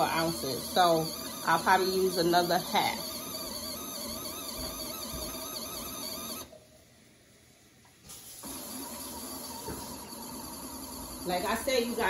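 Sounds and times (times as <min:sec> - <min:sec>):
washing machine motor whine: 0:00.0 - 0:06.5, 0:08.4 - 0:12.0.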